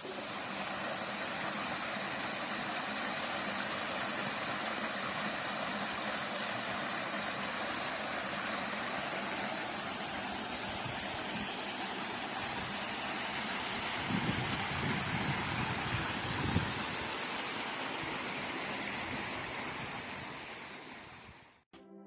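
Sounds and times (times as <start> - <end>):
stream rushing over rocks: 0.0 - 21.5.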